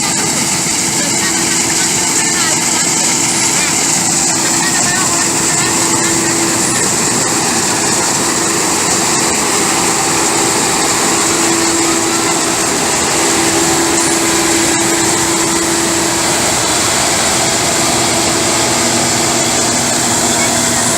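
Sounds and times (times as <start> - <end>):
farm machinery engine running: 0.0 - 20.9.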